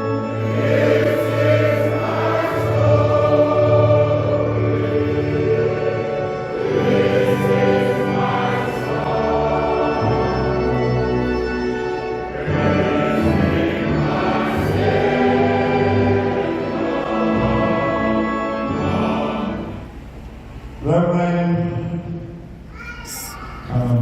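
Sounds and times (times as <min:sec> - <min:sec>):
church choir singing: 0:00.0 - 0:20.2.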